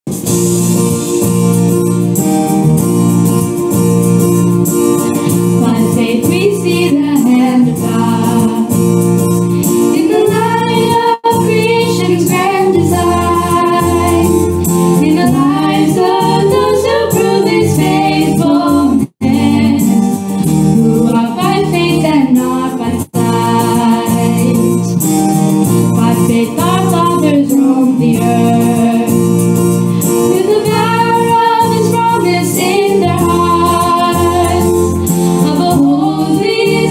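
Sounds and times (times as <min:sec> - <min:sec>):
instrumental accompaniment: 0:00.1 - 0:36.9
worship song singing: 0:05.5 - 0:09.0, 0:09.6 - 0:25.1, 0:25.8 - 0:36.9.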